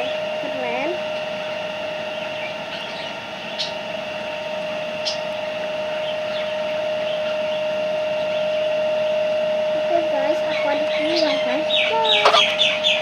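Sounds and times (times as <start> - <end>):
electric motor humming with whine: 0.0 - 13.0.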